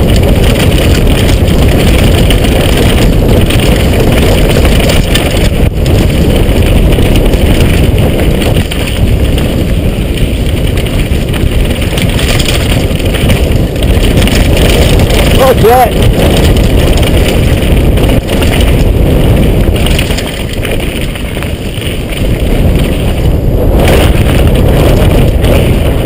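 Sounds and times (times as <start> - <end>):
mountain bike rolling downhill: 0.0 - 26.0
wind buffeting microphone: 0.0 - 26.0.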